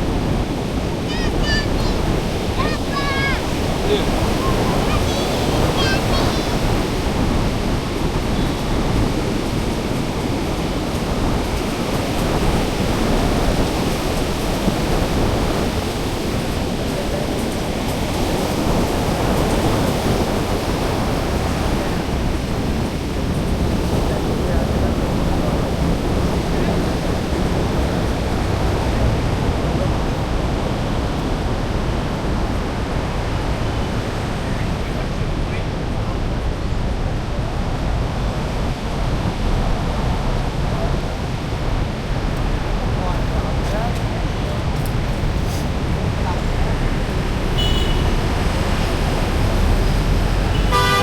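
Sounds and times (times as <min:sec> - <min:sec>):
surf breaking on beach: 0:00.0 - 0:51.0
wind: 0:00.0 - 0:51.0.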